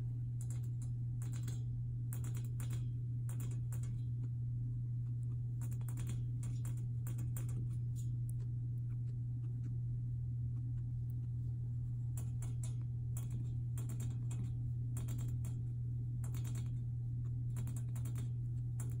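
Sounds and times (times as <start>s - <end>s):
steady low hum: 0.0s - 19.0s
guinea pig clicking at wire bars: 0.4s - 4.4s, 5.0s - 9.8s, 10.5s - 19.0s.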